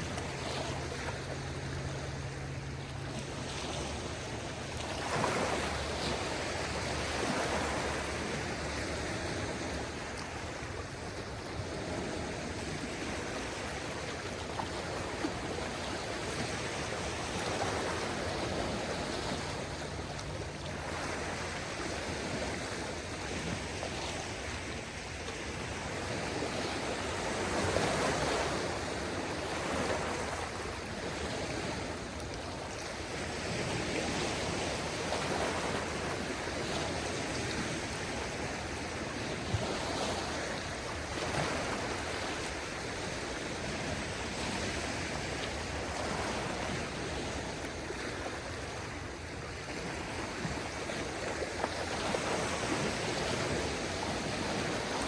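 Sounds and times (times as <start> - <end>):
small waves washing ashore: 0.0 - 55.0.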